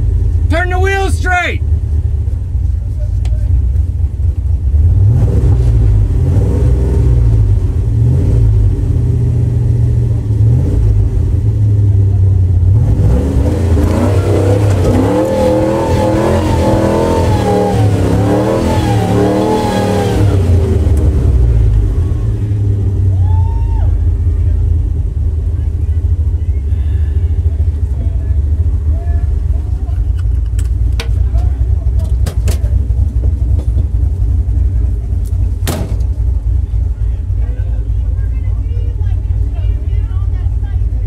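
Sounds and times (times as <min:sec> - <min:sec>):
truck engine revving: 0:03.5 - 0:41.0.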